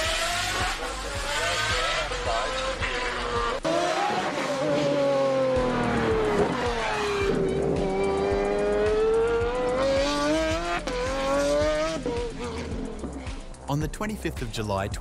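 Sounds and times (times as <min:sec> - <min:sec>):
car engine revving: 0:00.0 - 0:13.7.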